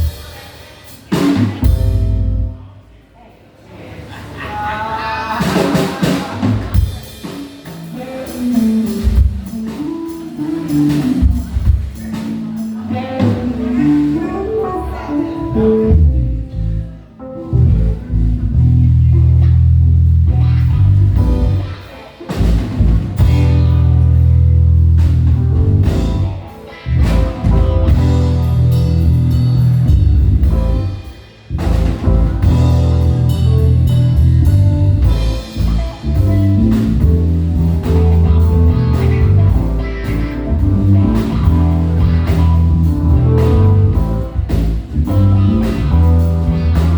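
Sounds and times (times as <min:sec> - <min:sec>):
live blues band playing: 0:00.0 - 0:02.8, 0:05.2 - 0:46.9
heavy held bass notes: 0:01.6 - 0:02.7, 0:08.0 - 0:46.9.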